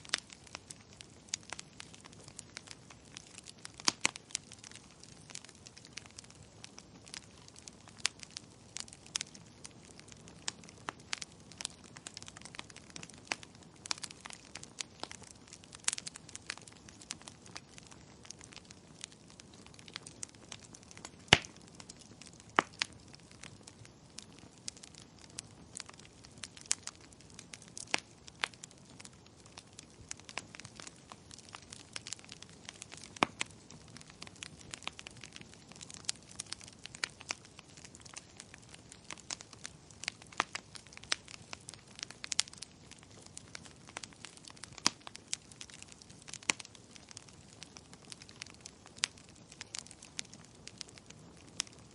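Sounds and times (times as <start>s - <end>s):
faint steady hiss: 0.0s - 51.9s
wood fire crackling and popping: 0.0s - 51.9s.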